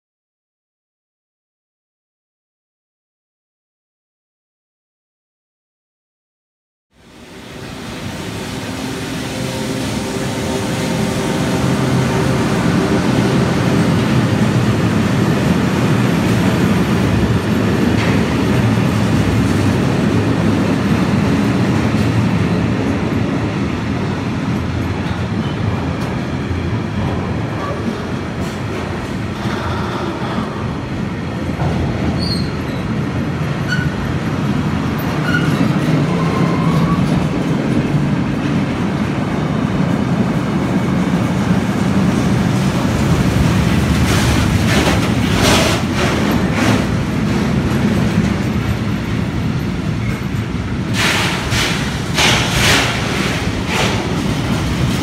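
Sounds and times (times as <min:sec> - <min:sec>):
train wheels rumbling on rails: 0:07.0 - 0:55.0.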